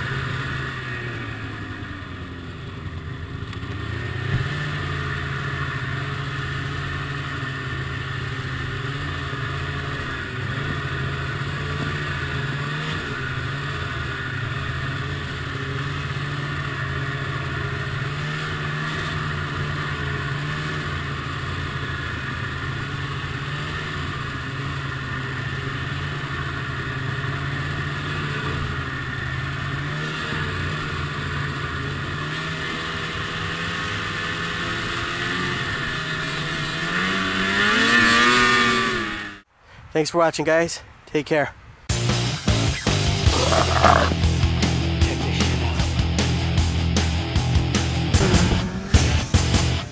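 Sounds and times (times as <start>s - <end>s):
snowmobile engine running: 0.0s - 39.4s, 43.0s - 49.2s.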